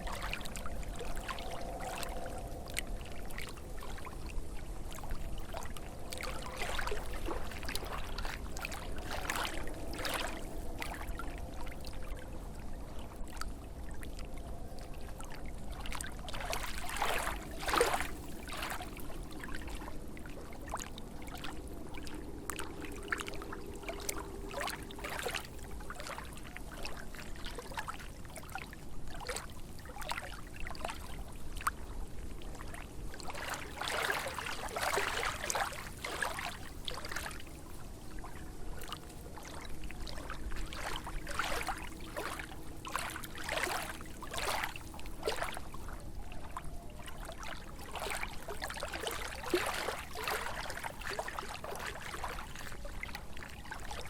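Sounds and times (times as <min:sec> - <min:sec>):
lake waves lapping and splashing: 0:00.0 - 0:54.0.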